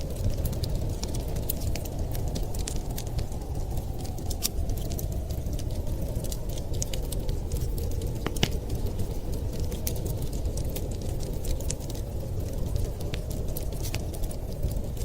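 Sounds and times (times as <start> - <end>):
low wind rumble: 0.0 - 15.0
wood fire crackling and popping: 0.0 - 15.0.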